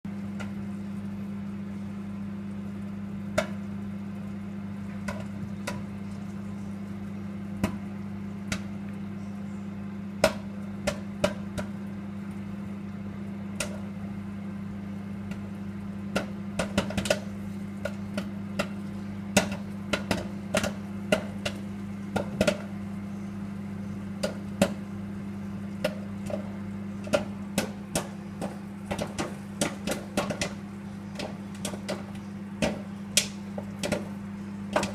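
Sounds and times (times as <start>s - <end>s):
microwave oven humming: 0.0s - 34.9s
popcorn popping: 0.1s - 34.9s.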